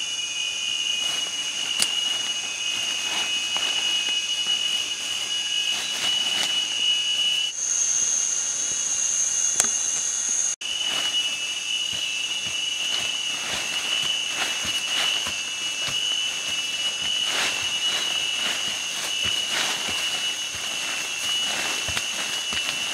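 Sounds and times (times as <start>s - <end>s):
high-pitched insect drone: 0.0s - 22.9s
digging stick scraping soil: 1.0s - 7.5s, 10.6s - 22.9s.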